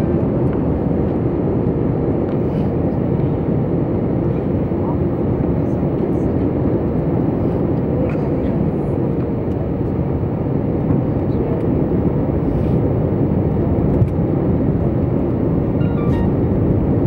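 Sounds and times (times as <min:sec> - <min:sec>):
airliner engines and airflow rushing: 0:00.0 - 0:17.0.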